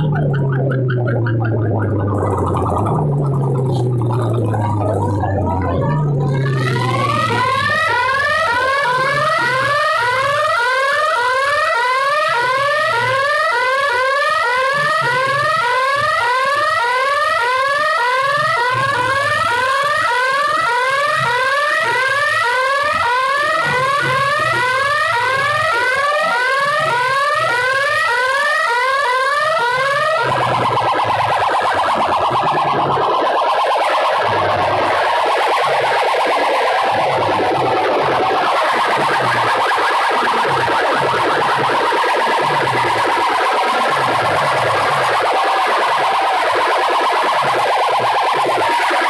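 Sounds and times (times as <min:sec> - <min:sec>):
electronic siren wail: 0:00.0 - 0:49.0.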